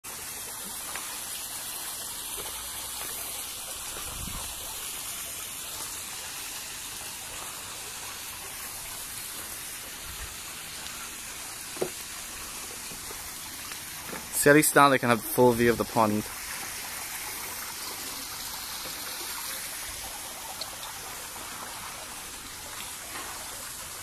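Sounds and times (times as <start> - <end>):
running water hiss: 0.0 - 24.0.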